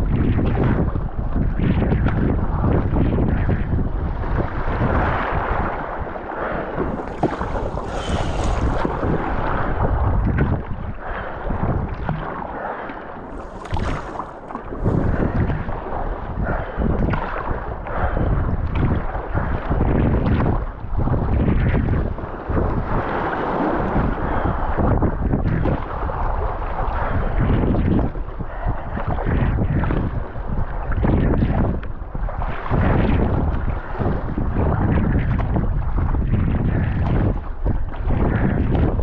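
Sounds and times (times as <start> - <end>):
choppy water splashing: 0.0 - 39.0
wind buffeting microphone: 0.0 - 39.0.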